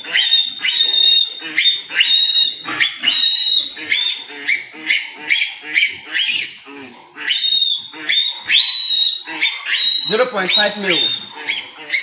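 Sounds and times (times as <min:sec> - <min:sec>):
piglet squealing: 0:00.0 - 0:12.0.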